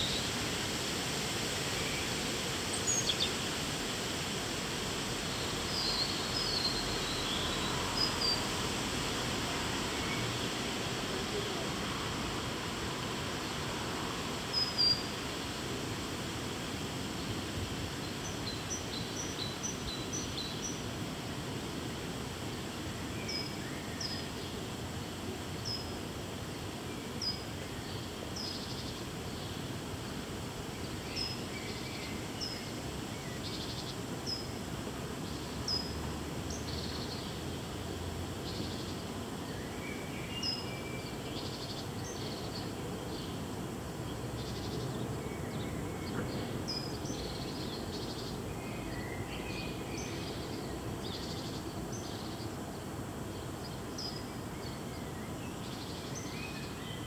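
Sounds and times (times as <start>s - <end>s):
small birds chirping: 0.0s - 16.0s, 26.7s - 57.0s.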